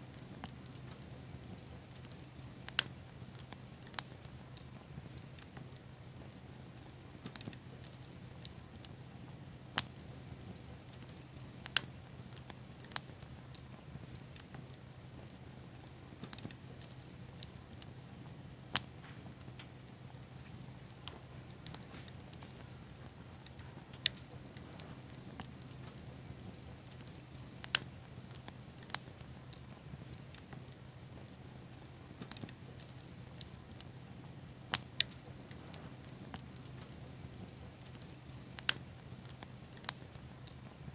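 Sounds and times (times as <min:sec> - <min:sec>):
faint steady hiss: 0:00.0 - 0:40.9
fire crackling and popping: 0:00.0 - 0:40.9.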